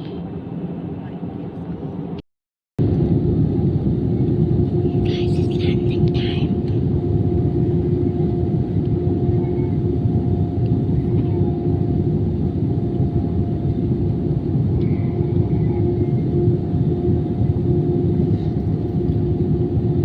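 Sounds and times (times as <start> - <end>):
aircraft cabin rumble: 2.8 - 20.0
constant humming tone: 2.8 - 20.0.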